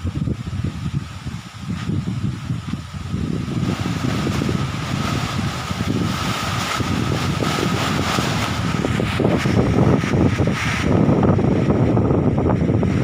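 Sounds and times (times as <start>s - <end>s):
strong wind gusting: 0.0s - 13.0s.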